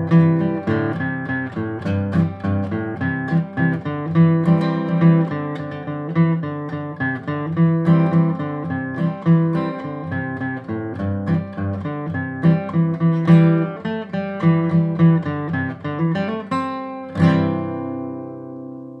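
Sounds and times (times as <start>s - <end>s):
acoustic guitar picking melody: 0.0s - 19.0s.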